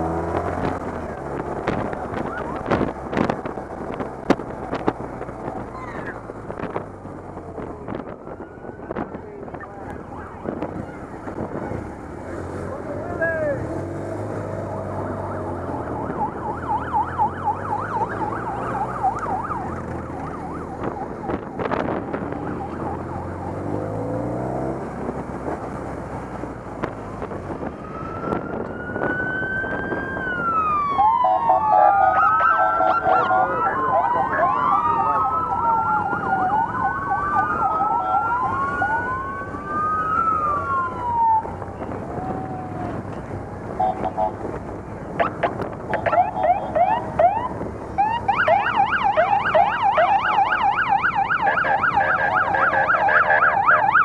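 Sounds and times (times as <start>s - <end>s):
police sirens wailing: 0.0s - 13.7s, 14.3s - 25.7s, 27.2s - 54.0s
motorcycle engines humming: 0.0s - 54.0s.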